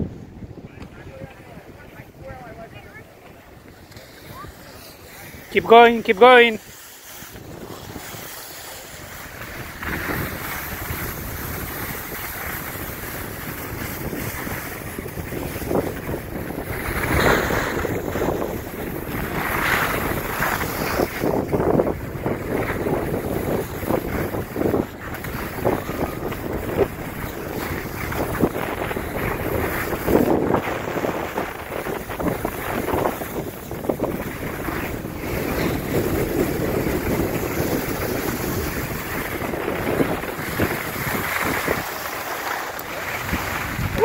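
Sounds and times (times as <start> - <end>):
wind rushing over microphone: 0.0 - 44.0
skis scraping on snow: 1.1 - 44.0.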